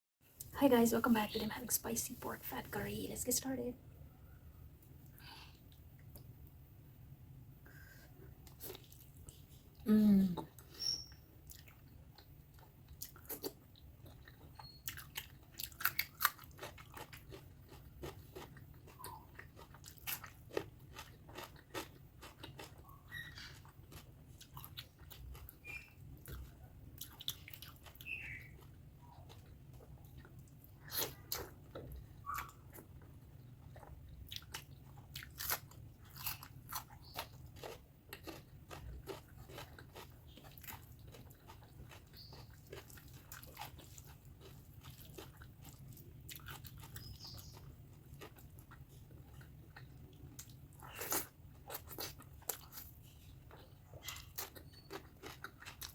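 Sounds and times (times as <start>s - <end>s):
close chewing and wet mouth clicks: 10.6s - 55.9s.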